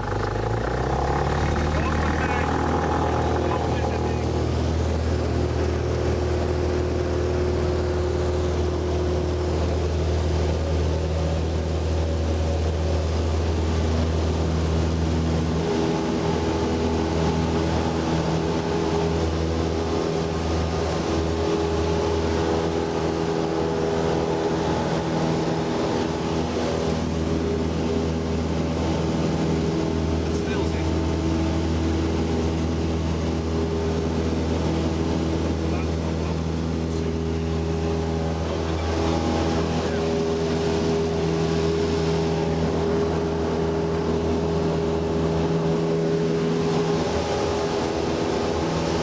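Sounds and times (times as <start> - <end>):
propeller plane engine in cabin: 0.0 - 49.0.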